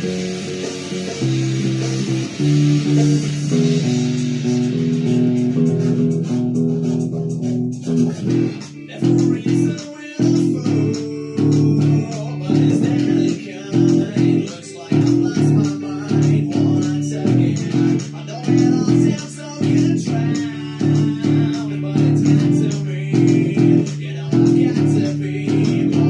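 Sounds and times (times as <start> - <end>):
bass guitar: 0.0 - 26.0
guitar chords: 0.0 - 26.0.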